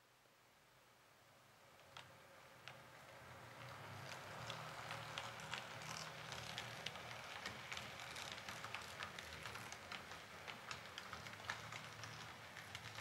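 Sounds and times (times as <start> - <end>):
model train wheels clicking on rail joints: 1.8 - 13.0.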